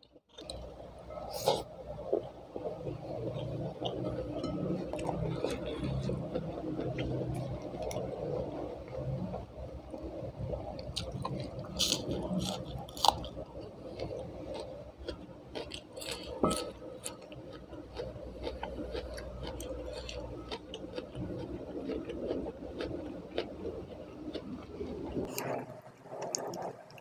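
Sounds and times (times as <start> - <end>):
person chewing food: 0.0 - 8.6, 9.9 - 27.0.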